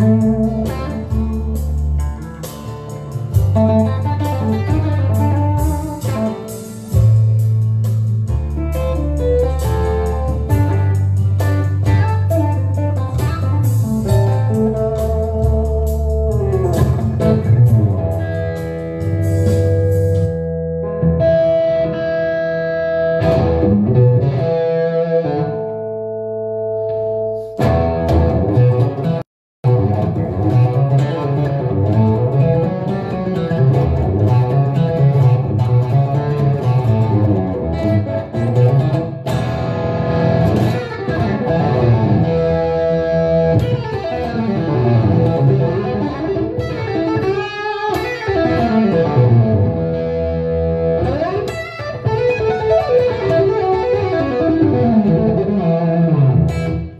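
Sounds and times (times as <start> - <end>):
electric guitar blues lead: 0.0 - 56.9.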